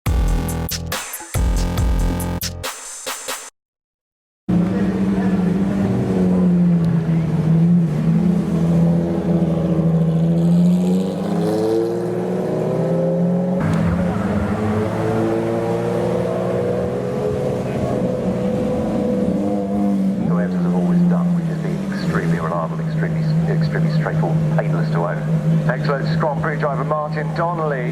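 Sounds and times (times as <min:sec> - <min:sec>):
car engine accelerating: 0:04.5 - 0:27.9.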